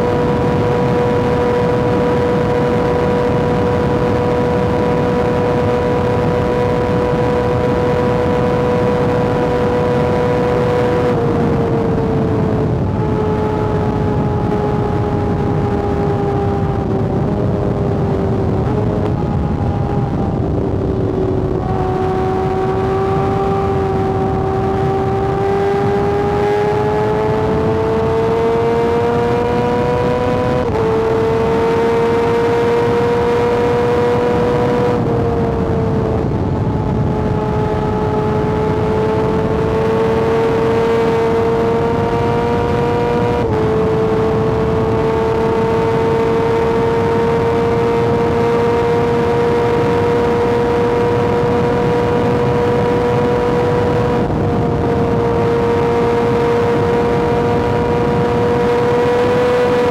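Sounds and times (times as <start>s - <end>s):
motorcycle engine at high revs: 0.0s - 59.9s
rushing wind: 0.0s - 59.9s.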